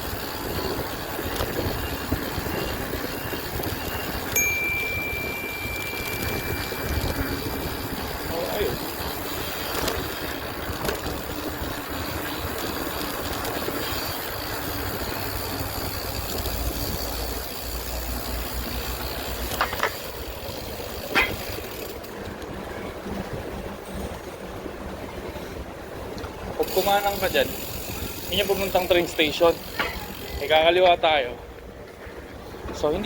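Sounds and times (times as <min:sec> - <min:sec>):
bicycle riding rushing noise: 0:00.0 - 0:33.0.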